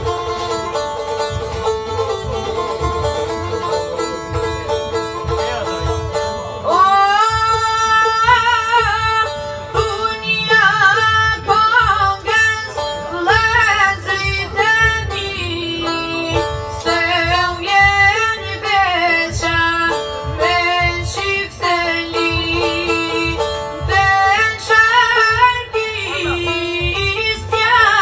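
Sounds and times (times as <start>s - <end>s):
plucked string accompaniment: 0.0s - 28.0s.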